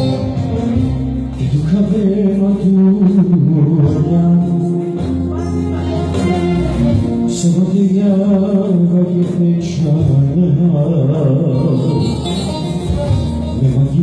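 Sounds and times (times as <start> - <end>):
amplified backing music: 0.0 - 14.0
man singing into microphone: 0.0 - 14.0.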